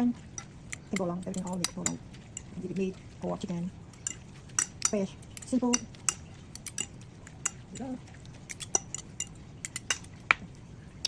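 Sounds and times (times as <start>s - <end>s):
utensil clinking against bowl: 0.0s - 10.4s.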